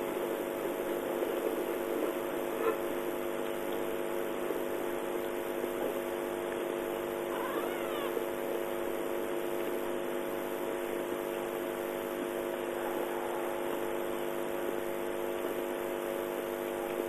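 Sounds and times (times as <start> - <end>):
constant hiss: 0.0 - 17.0
steady hum of fixed tones: 0.0 - 17.0.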